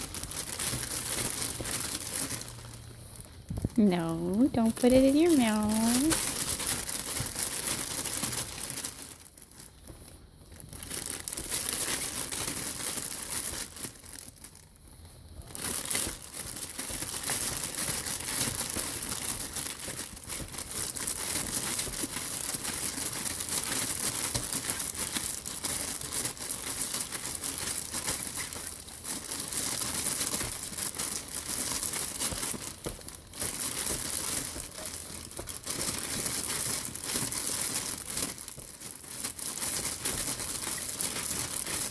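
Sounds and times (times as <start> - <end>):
crinkly material being crumpled: 0.0 - 41.9.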